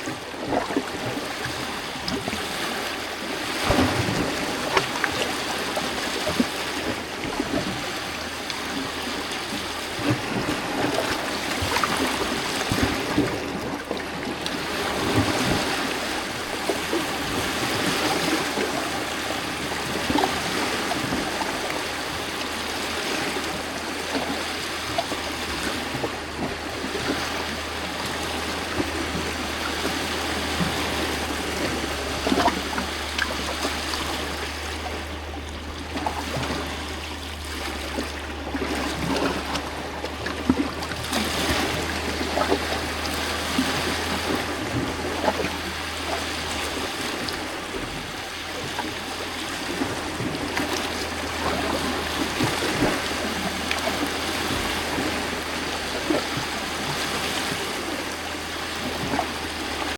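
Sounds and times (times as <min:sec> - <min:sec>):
small water splashes: 0:00.0 - 0:59.9
steady low rumble: 0:00.0 - 0:59.9
water gurgling among rocks: 0:00.0 - 0:59.9.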